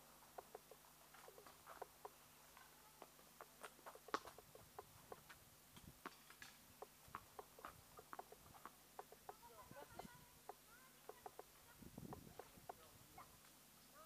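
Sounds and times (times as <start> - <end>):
faint chirps and clicks: 0.3 - 5.4, 6.3 - 14.0.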